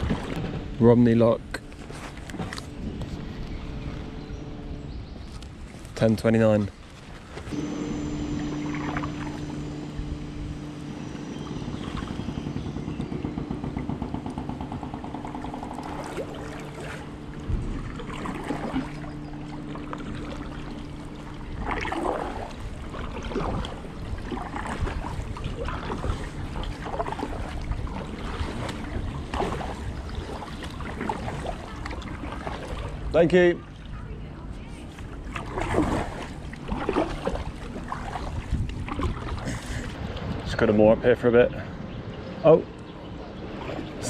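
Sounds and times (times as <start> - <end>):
kayak paddle splashing: 0.0 - 40.4
boat engine humming: 0.0 - 44.0.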